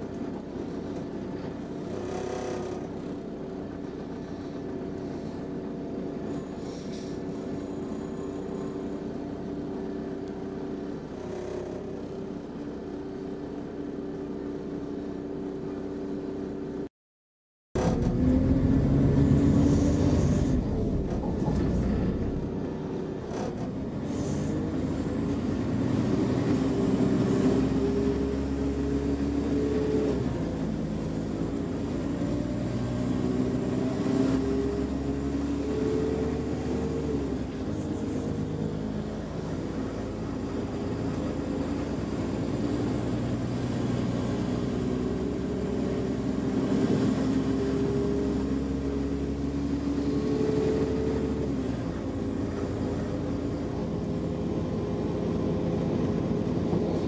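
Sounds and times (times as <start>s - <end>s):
train diesel engine under power: 0.0s - 16.9s, 17.8s - 57.0s
wheels rumbling on track: 0.0s - 16.9s, 17.8s - 57.0s.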